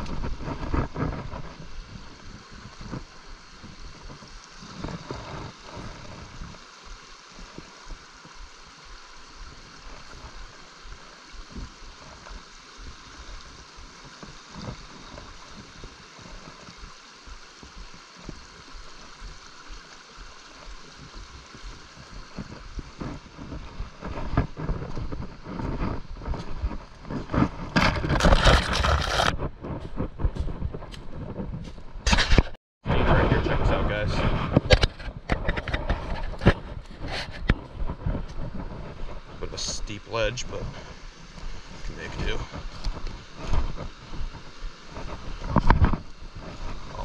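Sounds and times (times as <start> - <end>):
brook water running: 0.0 - 47.0.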